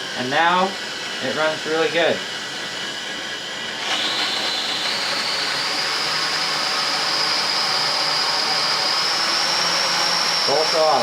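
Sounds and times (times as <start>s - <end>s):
quadcopter motors high whine: 0.0s - 11.0s.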